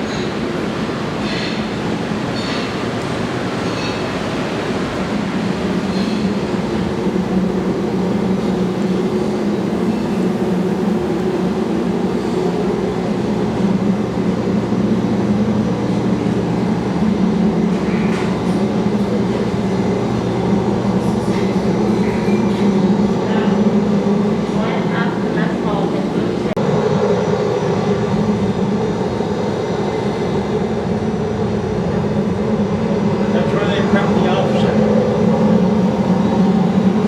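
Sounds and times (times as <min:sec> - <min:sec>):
machinery drone with low hum: 0:00.0 - 0:37.0.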